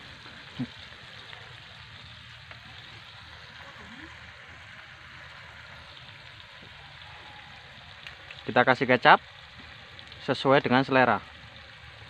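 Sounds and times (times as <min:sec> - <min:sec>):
faint sizzle in wok: 0:00.0 - 0:12.0.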